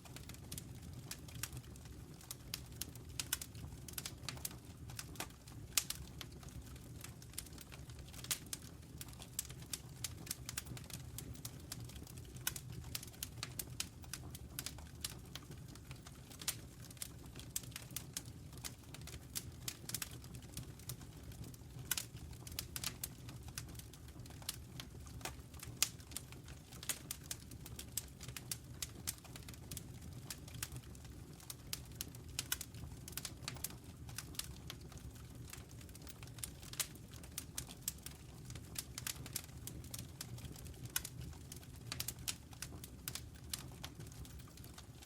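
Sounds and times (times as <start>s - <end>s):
low rumble of flames: 0.0s - 45.0s
wood fire crackling and popping: 0.0s - 45.0s.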